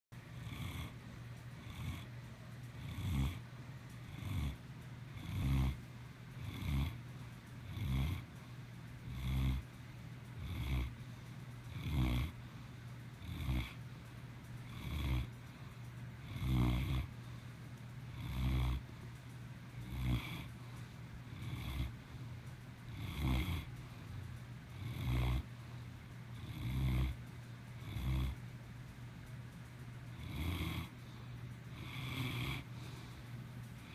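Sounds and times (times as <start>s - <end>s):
dog snoring: 0.3s - 28.5s, 30.0s - 33.9s.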